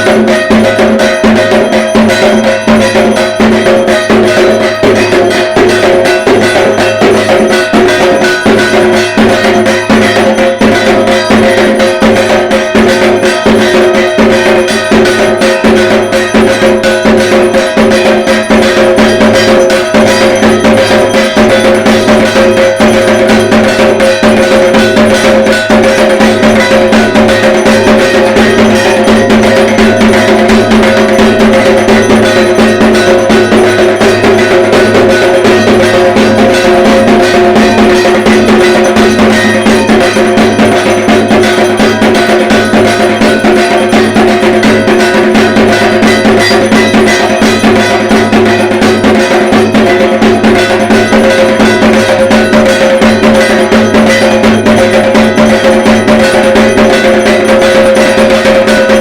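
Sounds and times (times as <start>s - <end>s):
barrel drum beaten with sticks: 0.0s - 59.0s
metallic ringing: 0.0s - 59.0s.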